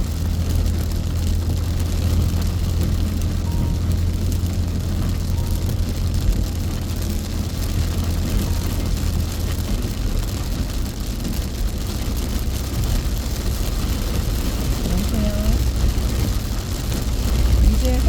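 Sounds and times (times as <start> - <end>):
car driving at speed: 0.0 - 18.0
heavy rain and wet tyres: 0.0 - 18.0.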